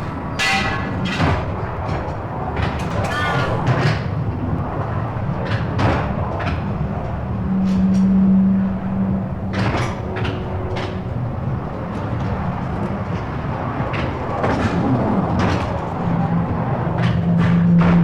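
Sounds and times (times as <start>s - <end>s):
fairground ride rumble: 0.0s - 18.0s.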